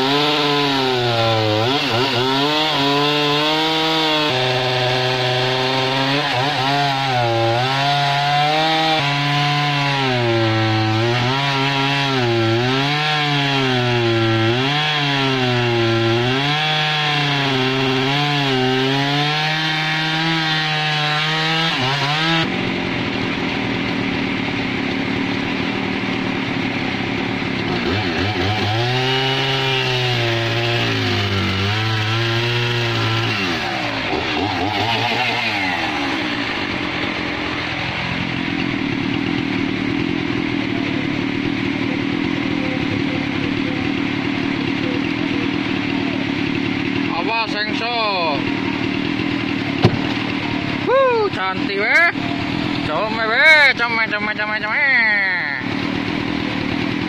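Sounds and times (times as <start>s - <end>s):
chainsaw cutting log: 0.0s - 57.0s.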